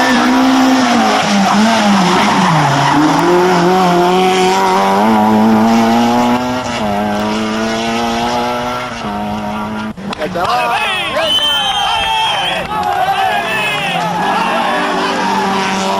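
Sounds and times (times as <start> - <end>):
car engine revving: 0.0 - 11.4, 12.5 - 15.9.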